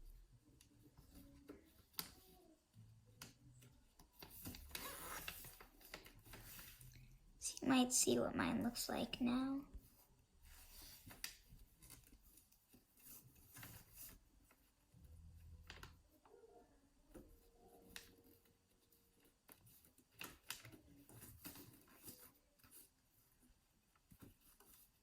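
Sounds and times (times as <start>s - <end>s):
faint clicks and rustles of hands: 0.0s - 25.0s.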